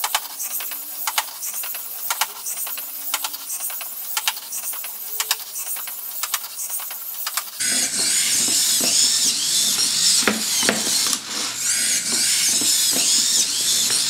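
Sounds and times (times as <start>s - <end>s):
servo clicks and ticks: 0.0s - 14.0s
steady hiss: 0.0s - 14.0s.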